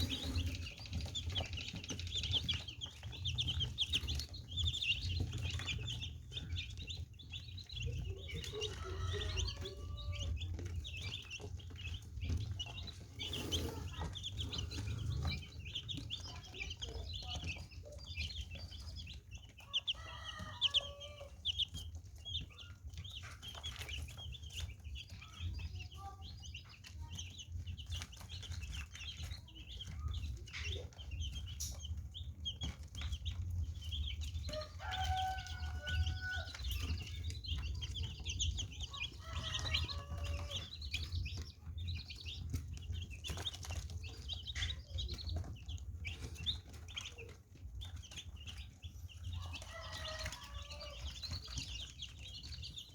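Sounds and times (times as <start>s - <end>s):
baby chicks peeping: 0.0s - 52.9s.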